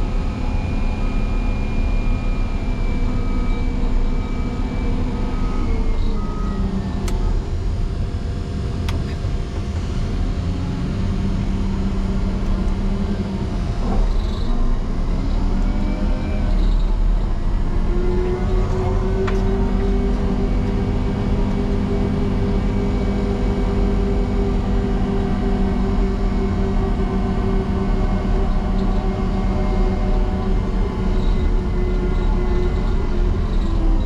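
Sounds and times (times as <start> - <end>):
diesel engine running under load: 0.0 - 34.0.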